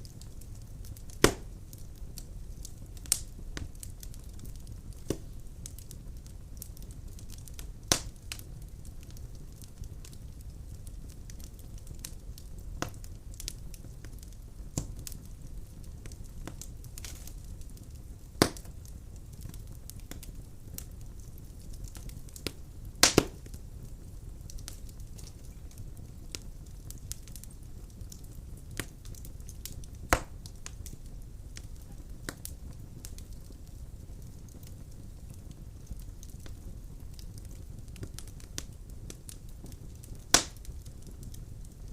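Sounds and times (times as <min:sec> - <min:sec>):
fire flames rumbling: 0:00.0 - 0:41.9
logs crackling and popping: 0:00.0 - 0:41.9.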